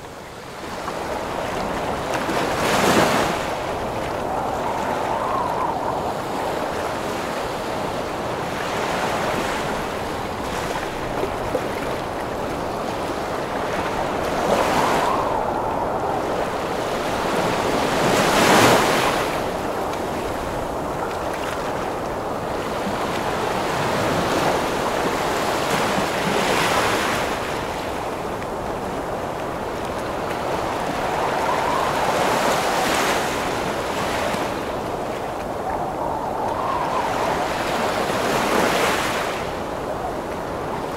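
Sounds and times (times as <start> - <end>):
strong storm wind: 0.0 - 40.9
ocean waves crashing: 1.2 - 40.9.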